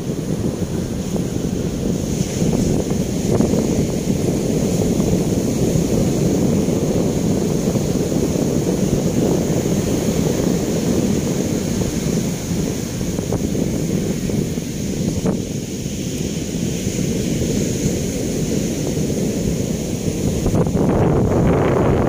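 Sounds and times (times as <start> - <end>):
ocean surf on beach: 0.0 - 22.0
wind buffeting microphone: 0.0 - 22.0.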